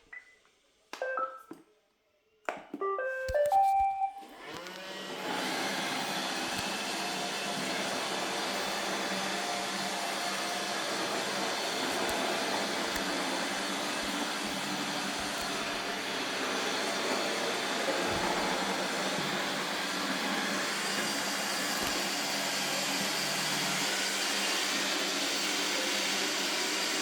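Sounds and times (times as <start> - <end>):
robot vacuum motors whirring: 4.4 - 27.0.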